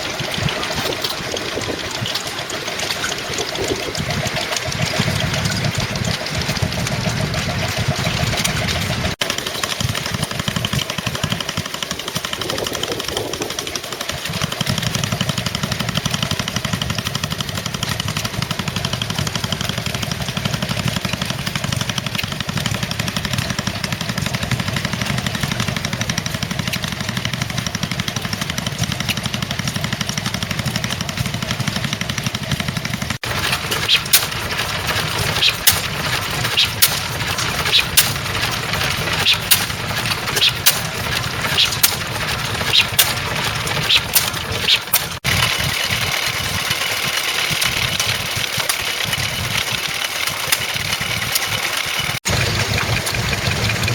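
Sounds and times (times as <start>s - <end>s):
engines running steadily: 0.0s - 53.9s
sharp exhaust cracks: 0.0s - 53.9s.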